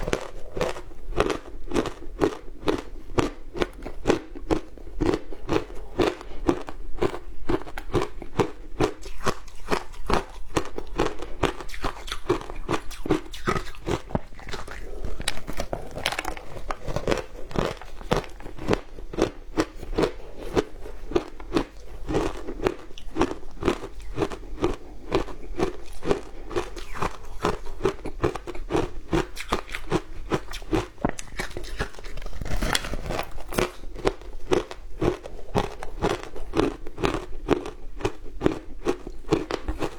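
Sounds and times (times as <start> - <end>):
frozen ice being chewed: 0.0 - 39.9.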